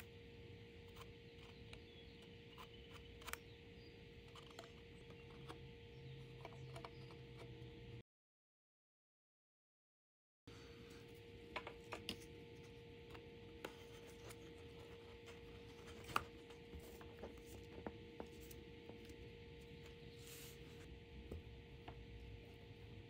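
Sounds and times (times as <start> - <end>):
faint steady hum: 0.0 - 8.0, 10.5 - 23.0.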